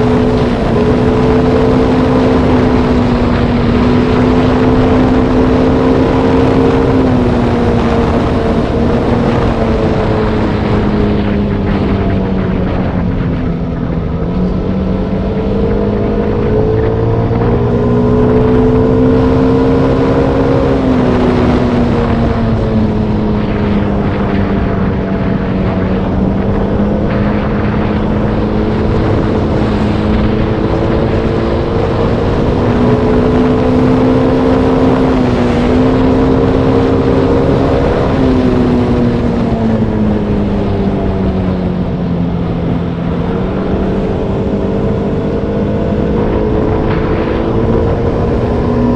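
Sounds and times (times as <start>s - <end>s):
motorbike engine running: 0.0s - 48.9s
wind and road noise: 0.0s - 48.9s.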